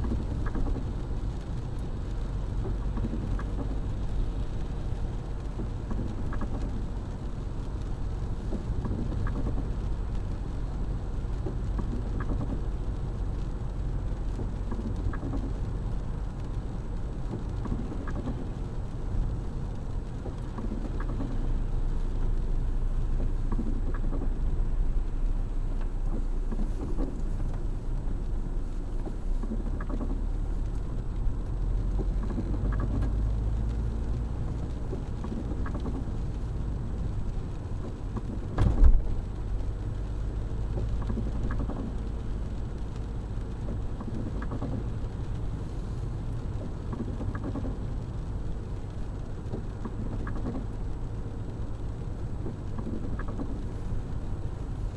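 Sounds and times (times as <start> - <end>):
low rumble of engine and road: 0.0 - 54.9
windshield wipers stroking: 0.0 - 54.9.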